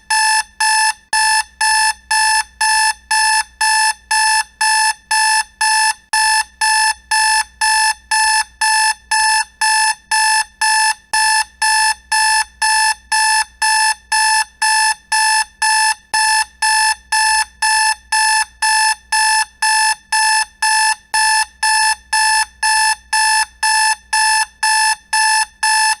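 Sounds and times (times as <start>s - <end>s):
alarm clock beeping: 0.1s - 26.0s.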